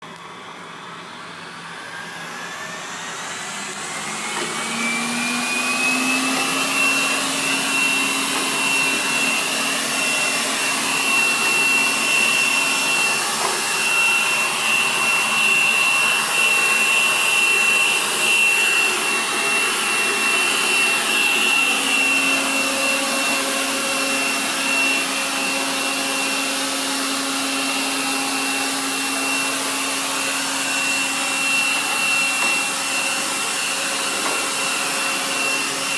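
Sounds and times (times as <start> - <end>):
robot vacuum cleaner whine: 0.0 - 35.9.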